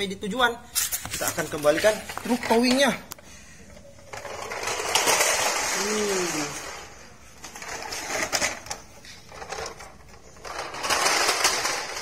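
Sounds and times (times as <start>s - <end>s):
toy wheels rolling over concrete: 0.0s - 12.0s.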